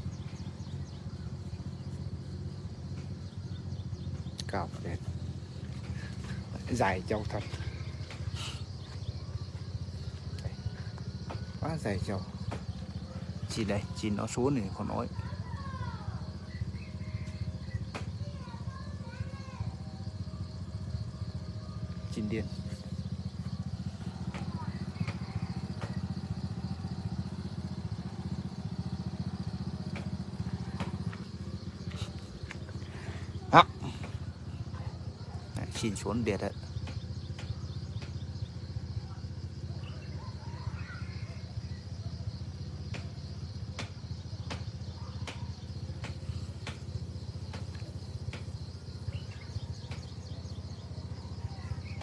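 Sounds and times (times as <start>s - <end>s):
faint bird chirps: 0.0s - 52.0s
insect buzz: 0.0s - 52.0s
small engine idling: 0.0s - 52.0s.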